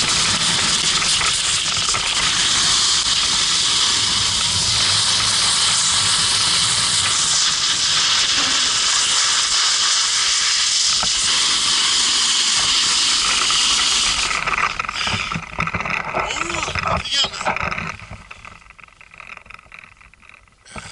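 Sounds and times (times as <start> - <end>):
snowboard sliding on snow: 0.0 - 17.3.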